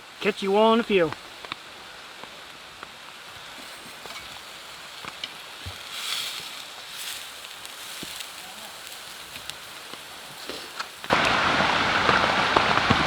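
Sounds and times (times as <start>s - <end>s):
rain falling: 0.0s - 13.0s
rush of hissing noise: 0.0s - 13.0s.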